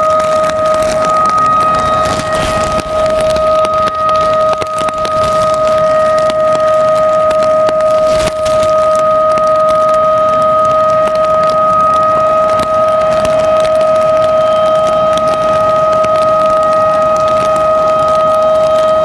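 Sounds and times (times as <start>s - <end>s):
steady warning siren: 0.0s - 19.0s.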